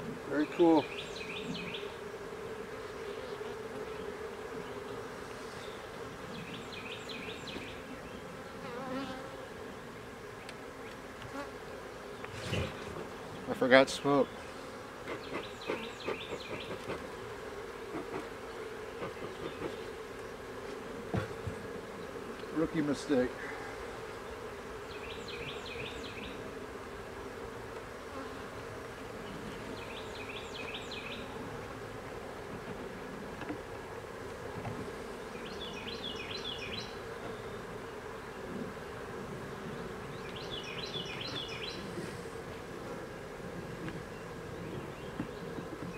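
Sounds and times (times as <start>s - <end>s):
bees buzzing: 0.0s - 45.9s.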